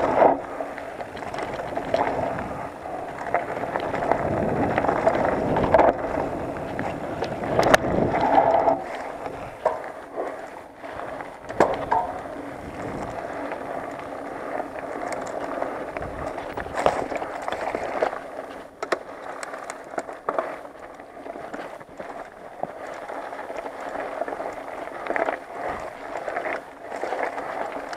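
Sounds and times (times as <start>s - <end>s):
bike knocking and rattling: 0.0s - 27.9s
bike tyres rumbling on dirt: 0.0s - 27.9s.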